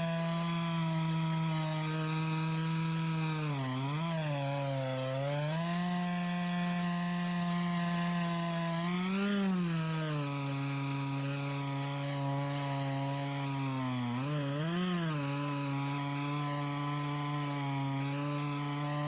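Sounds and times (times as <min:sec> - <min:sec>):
chainsaw cutting through log: 0:00.0 - 0:19.0.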